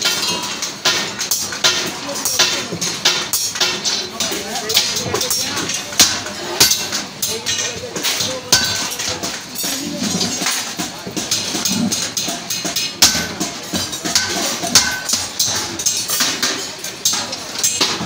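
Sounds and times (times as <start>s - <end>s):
hammer striking metal bucket: 0.0s - 18.0s
voices: 0.0s - 18.0s.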